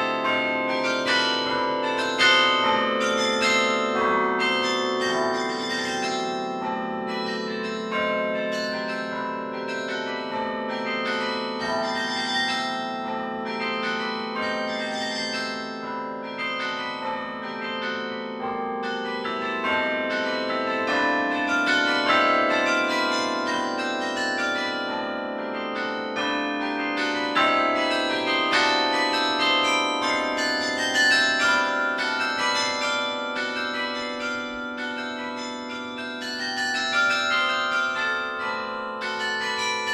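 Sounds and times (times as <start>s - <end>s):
carillon bells melody: 0.0s - 39.9s
low bells ringing: 0.0s - 39.9s.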